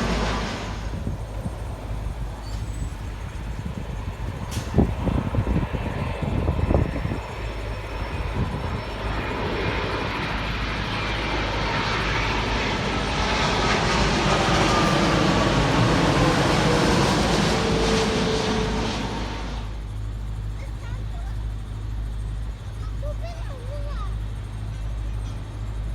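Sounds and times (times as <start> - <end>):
jet airliner passing: 0.0 - 25.9.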